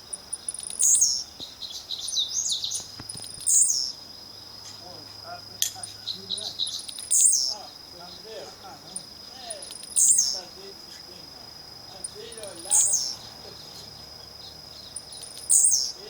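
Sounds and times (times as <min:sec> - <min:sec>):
bird buzzy song: 0:00.0 - 0:16.0
birds chirping: 0:00.0 - 0:16.0
cricket trill: 0:00.0 - 0:16.0.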